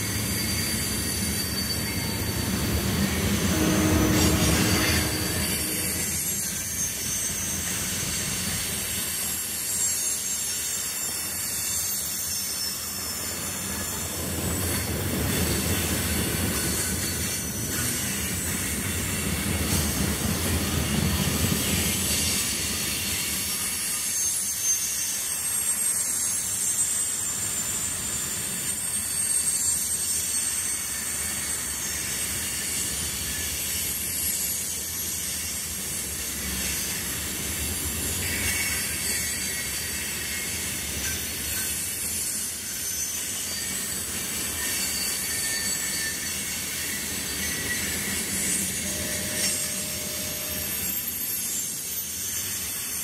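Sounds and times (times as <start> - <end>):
high-pitched wheel squeal: 0.0 - 53.0
train wheels rumbling on rail: 0.0 - 53.0.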